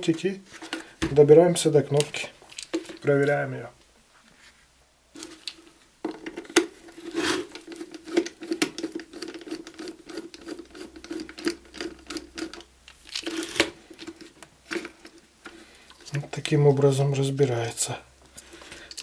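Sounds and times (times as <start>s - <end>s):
plastic parts clicking and scraping: 0.0s - 3.4s, 5.1s - 17.0s, 18.2s - 19.0s.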